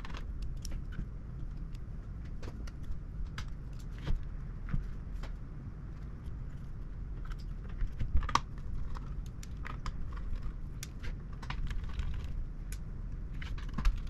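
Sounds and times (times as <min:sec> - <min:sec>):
light clicks and taps of small parts: 0:00.0 - 0:14.0.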